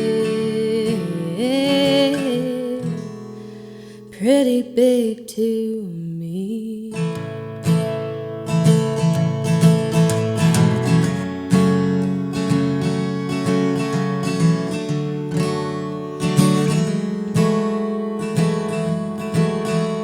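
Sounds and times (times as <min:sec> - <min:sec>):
acoustic guitar strumming: 0:00.0 - 0:05.2, 0:07.0 - 0:20.0.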